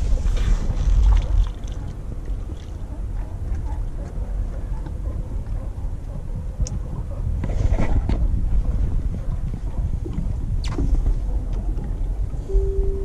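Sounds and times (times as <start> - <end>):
muffled underwater water rumble: 0.0 - 13.0.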